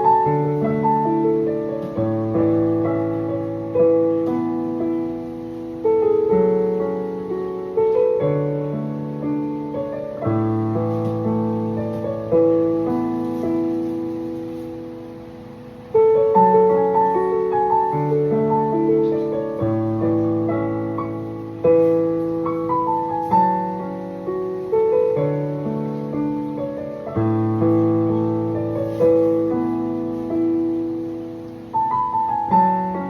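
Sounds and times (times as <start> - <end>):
gentle piano melody: 0.0 - 33.0.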